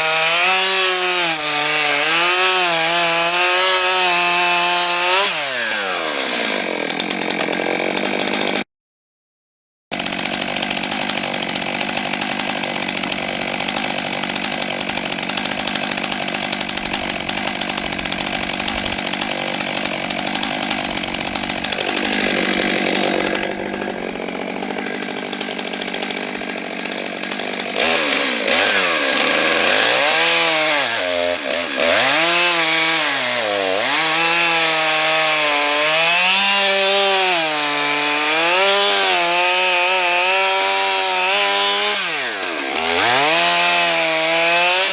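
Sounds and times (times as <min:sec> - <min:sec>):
chainsaw running at high revs: 0:00.0 - 0:08.7, 0:09.9 - 0:44.9.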